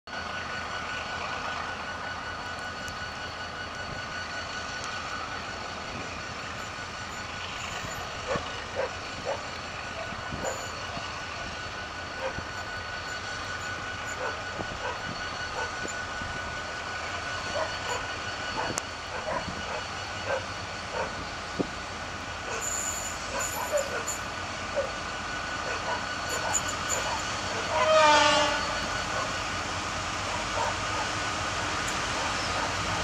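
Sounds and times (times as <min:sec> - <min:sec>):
diesel locomotive engine running: 0:00.1 - 0:33.0.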